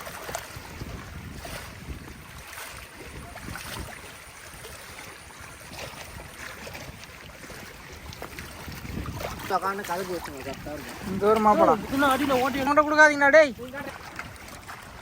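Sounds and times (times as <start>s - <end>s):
faint splashes: 0.0s - 15.0s
lake water lapping: 0.0s - 15.0s
wind rumbling on microphone: 0.0s - 15.0s.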